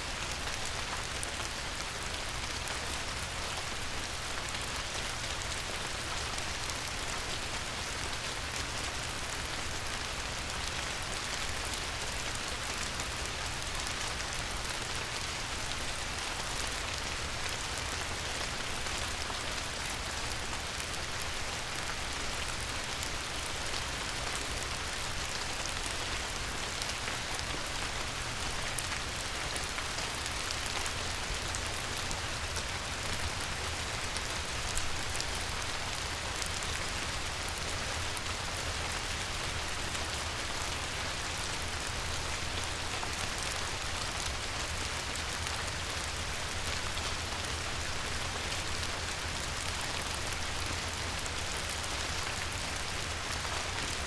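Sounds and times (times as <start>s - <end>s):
light rain on a river: 0.0s - 54.0s.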